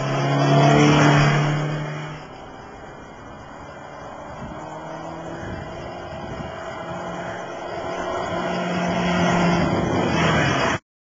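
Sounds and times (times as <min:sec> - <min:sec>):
wind and road noise: 0:00.0 - 0:10.8.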